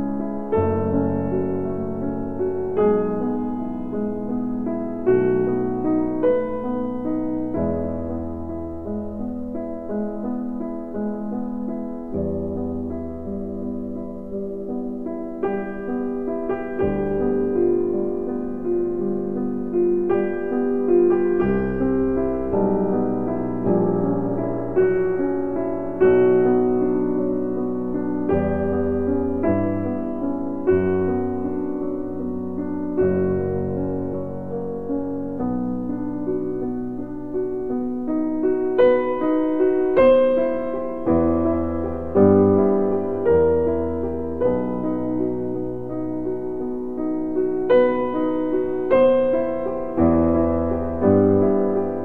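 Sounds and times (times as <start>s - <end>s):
slow piano music: 0.0s - 52.0s.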